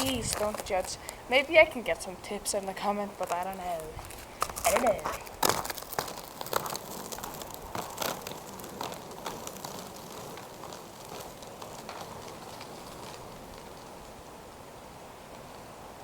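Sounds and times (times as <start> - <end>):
roller skate wheels clacking: 0.0 - 15.7
skate wheels rolling hiss: 0.0 - 16.0.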